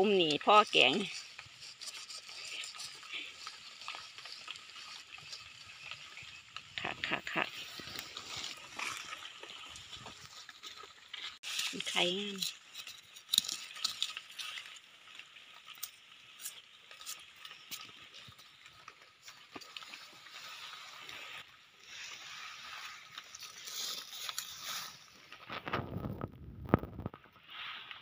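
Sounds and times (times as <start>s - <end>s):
knife scraping dry soil: 0.0s - 26.2s
small clicks and rustles: 0.0s - 28.0s.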